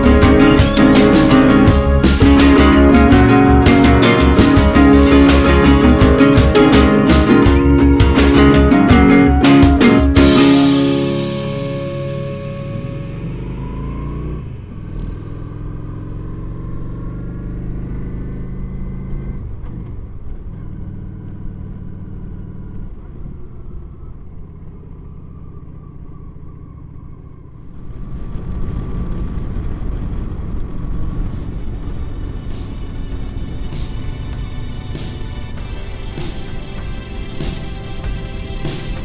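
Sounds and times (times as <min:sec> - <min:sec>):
motorcycle engine running: 0:00.0 - 0:39.0
road and wind noise: 0:00.0 - 0:39.0.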